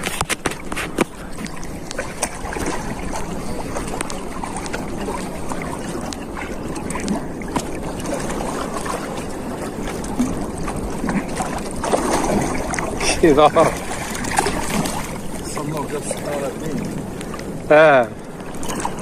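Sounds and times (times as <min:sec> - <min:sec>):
sea water rushing: 0:00.0 - 0:19.0
wind rumbling on microphone: 0:00.0 - 0:19.0.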